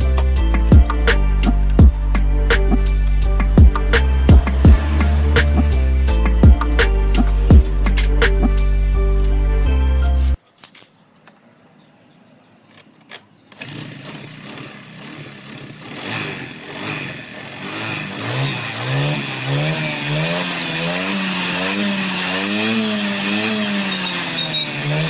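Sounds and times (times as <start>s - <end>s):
scooter engine revving: 0.0s - 8.7s, 12.7s - 25.0s.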